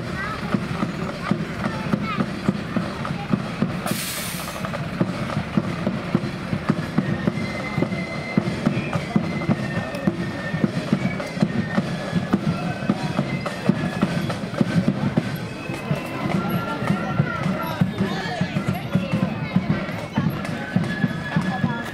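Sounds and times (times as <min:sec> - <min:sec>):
snare drums beating: 0:00.0 - 0:21.9
high flute melody: 0:03.9 - 0:21.9.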